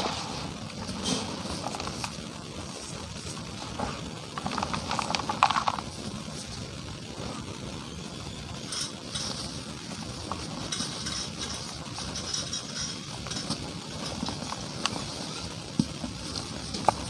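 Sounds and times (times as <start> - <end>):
dry cement crumbling: 0.0 - 17.0.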